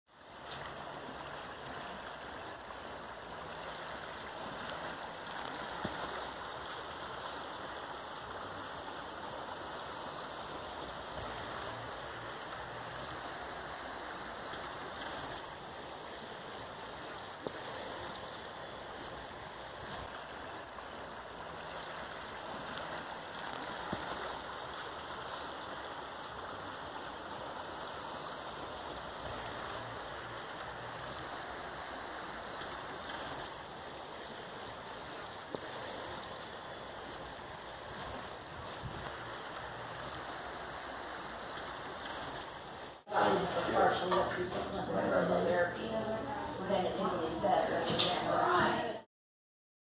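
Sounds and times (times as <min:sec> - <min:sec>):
stream water rushing: 0:00.1 - 0:49.0.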